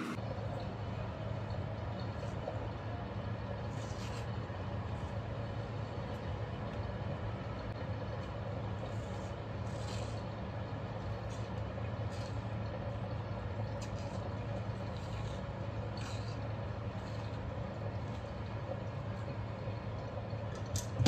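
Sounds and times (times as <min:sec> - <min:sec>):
low mechanical hum: 0:00.0 - 0:21.0
membrane peeled off liver: 0:01.8 - 0:21.0.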